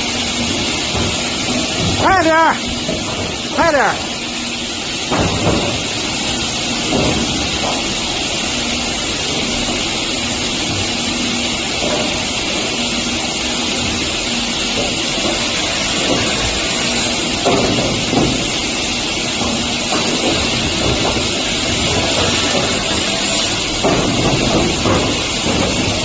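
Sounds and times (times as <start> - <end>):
wood saw machine running: 0.0 - 26.0.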